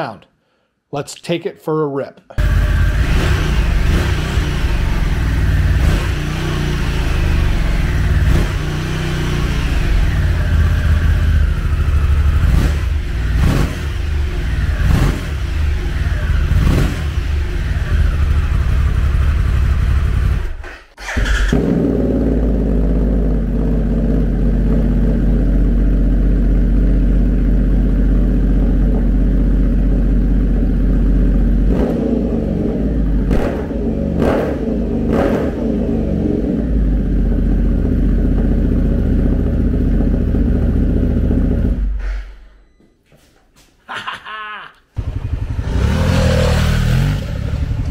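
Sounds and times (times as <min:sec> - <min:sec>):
motorcycle engine idling and revving: 0:02.4 - 0:42.0, 0:45.0 - 0:47.9.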